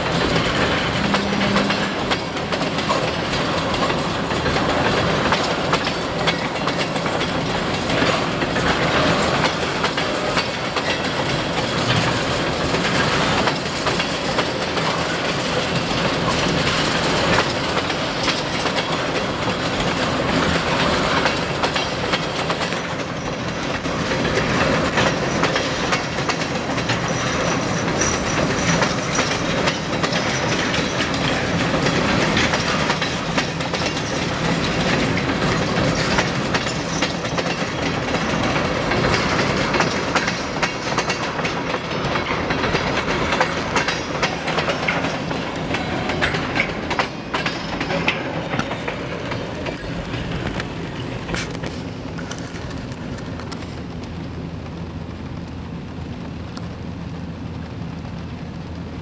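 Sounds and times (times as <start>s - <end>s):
wheels clicking over rail joints: 0.0s - 54.4s
freight train rumble: 0.0s - 59.0s.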